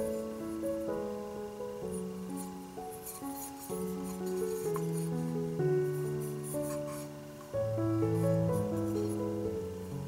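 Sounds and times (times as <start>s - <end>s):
background music with held chords: 0.0s - 10.0s.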